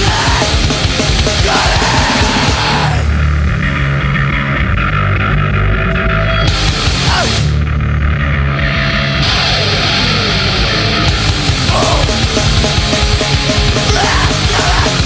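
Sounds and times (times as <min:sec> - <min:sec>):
hardcore punk band playing: 0:00.0 - 0:15.0.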